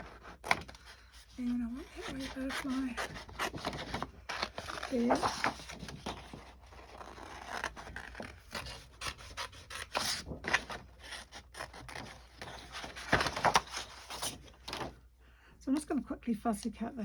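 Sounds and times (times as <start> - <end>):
scissors snipping paper: 0.0 - 14.0.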